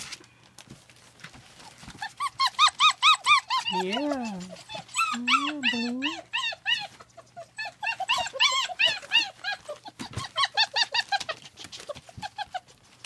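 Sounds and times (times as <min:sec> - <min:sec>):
puppies whining and yelping: 0:01.4 - 0:13.0.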